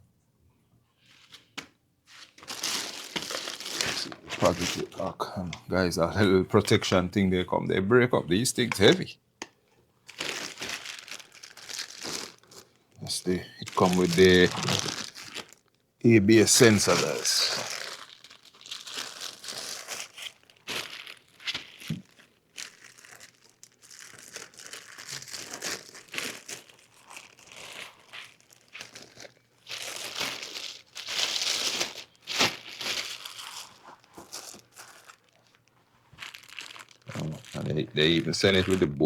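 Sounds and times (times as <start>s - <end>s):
plastic packaging crinkling: 2.1s - 5.2s, 8.4s - 9.0s, 10.0s - 39.0s.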